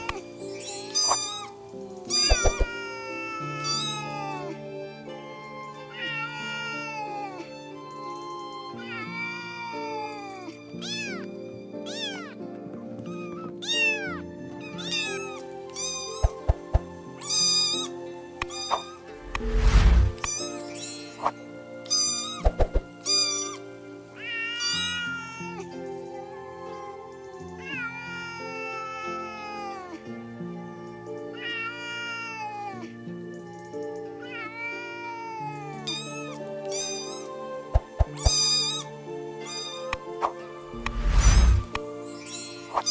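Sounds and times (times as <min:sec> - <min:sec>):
cat meowing: 0:00.0 - 0:04.6, 0:05.8 - 0:20.6, 0:21.3 - 0:23.6, 0:24.2 - 0:25.7, 0:26.6 - 0:32.9, 0:33.6 - 0:41.8
background music: 0:00.0 - 0:42.9.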